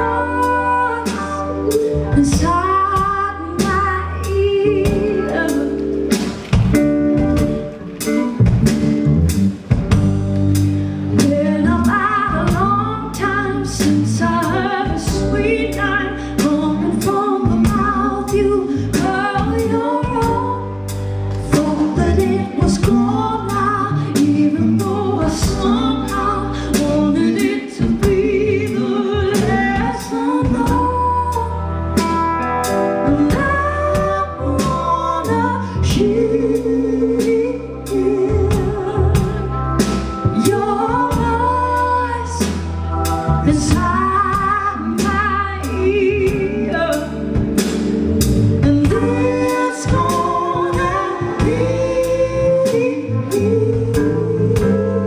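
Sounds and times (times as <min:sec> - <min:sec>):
woman singing: 0:00.0 - 0:06.5, 0:11.1 - 0:55.0
bass guitar: 0:00.0 - 0:55.0
drum kit beat: 0:00.0 - 0:55.0
electric guitar: 0:00.0 - 0:55.0
keyboard: 0:00.0 - 0:55.0.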